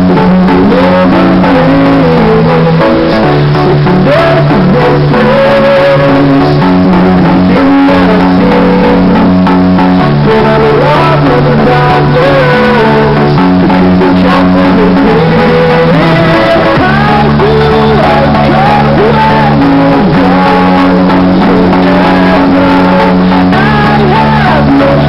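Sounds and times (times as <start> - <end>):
loud song with guitar: 0.0 - 25.0.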